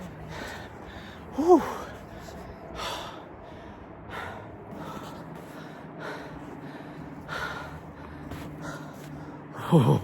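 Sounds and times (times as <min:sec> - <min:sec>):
person breathing hard: 0:00.2 - 0:10.0.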